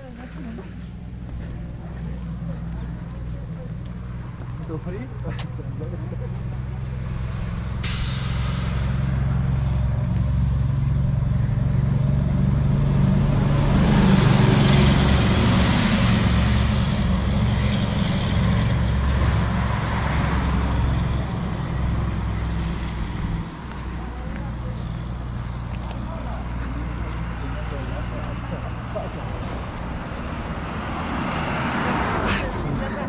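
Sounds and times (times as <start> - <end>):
truck engine rumbling past: 0.0 - 33.0.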